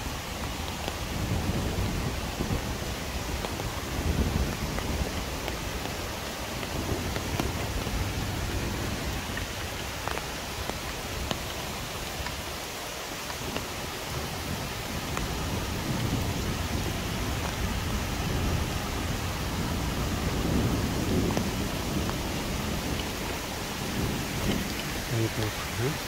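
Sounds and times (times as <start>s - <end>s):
rain hissing: 0.0s - 26.0s
raindrops ticking: 0.1s - 26.0s.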